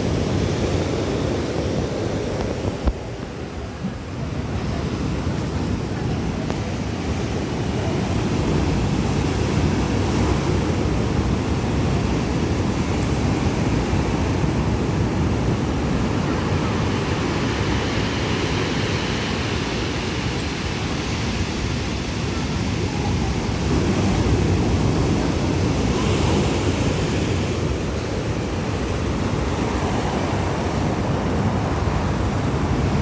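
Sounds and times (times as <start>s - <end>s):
sea surf washing on shore: 0.0s - 33.0s
wind on microphone: 0.0s - 33.0s.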